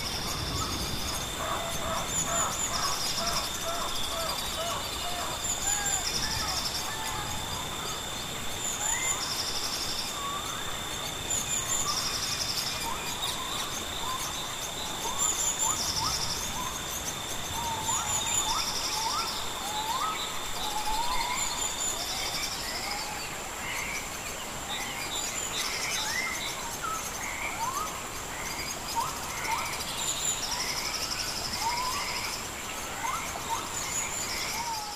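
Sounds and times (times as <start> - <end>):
high insect whine: 0.0 - 34.9.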